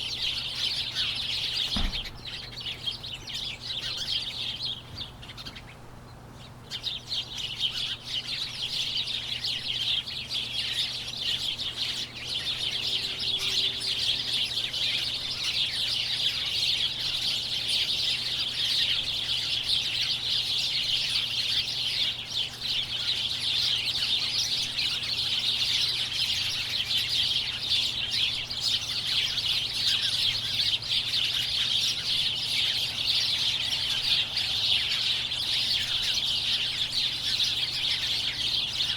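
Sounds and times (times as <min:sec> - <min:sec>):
flock of birds chirping: 0:00.0 - 0:38.9.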